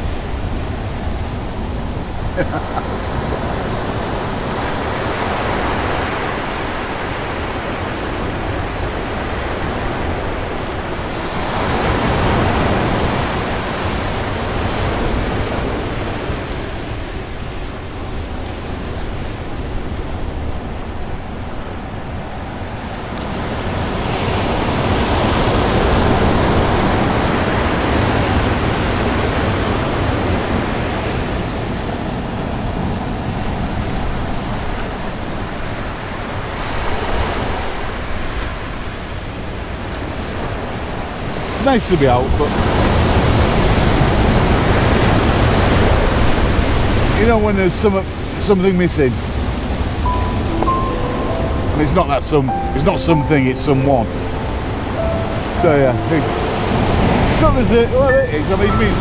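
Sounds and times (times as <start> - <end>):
sea surf breaking: 0.0 - 32.2, 33.0 - 59.0.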